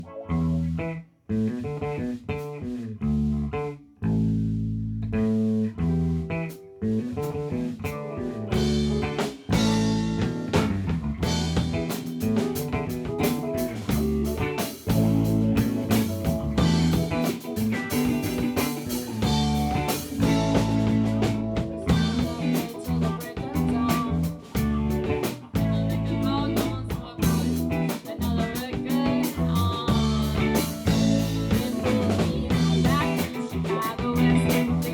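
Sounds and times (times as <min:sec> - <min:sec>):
bluesy rock band playing: 0:00.0 - 0:34.9.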